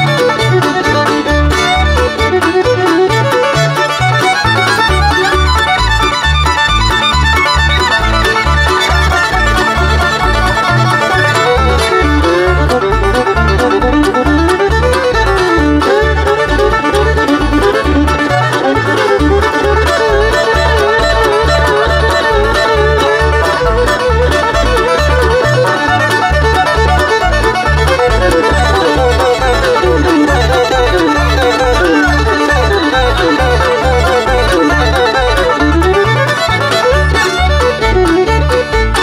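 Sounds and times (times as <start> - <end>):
banjo: 0.0 - 39.0
bass beat: 0.0 - 39.0
fiddle melody: 0.0 - 39.0
guitar: 0.0 - 39.0.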